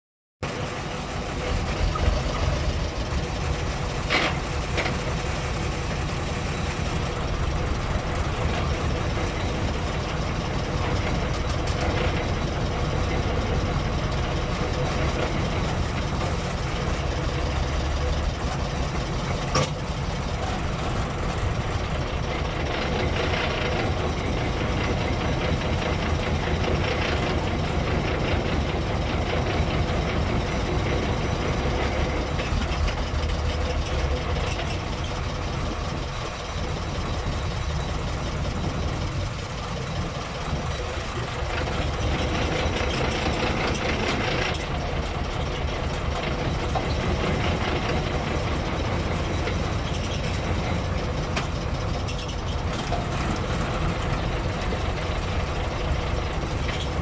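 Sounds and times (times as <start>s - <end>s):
truck engine running: 0.4s - 57.0s.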